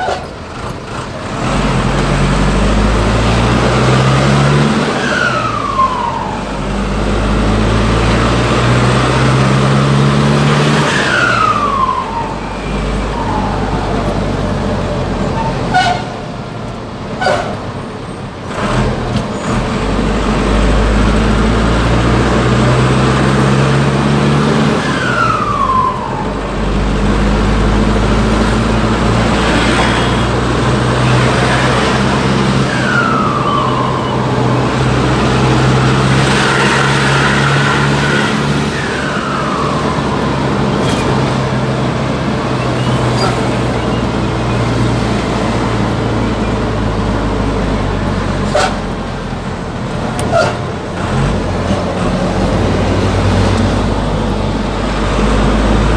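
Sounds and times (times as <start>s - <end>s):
diesel truck engine accelerating: 0.0s - 55.9s.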